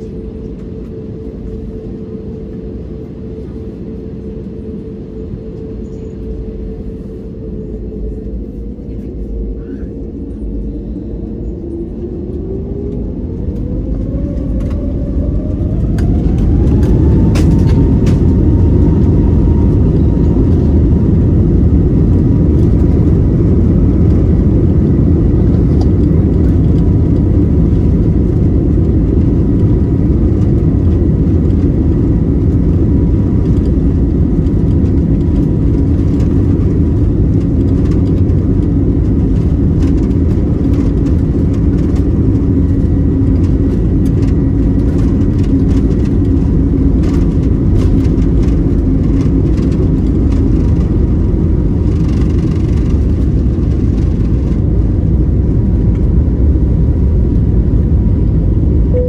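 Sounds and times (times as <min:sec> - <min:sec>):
aircraft cabin low rumble: 0:00.0 - 0:59.0
faint steady whining tones: 0:00.0 - 0:59.0.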